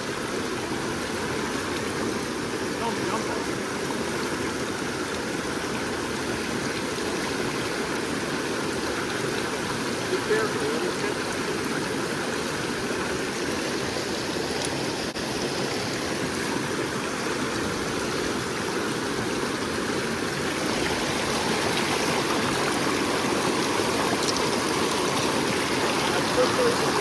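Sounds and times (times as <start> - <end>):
river current rushing: 0.0 - 27.0.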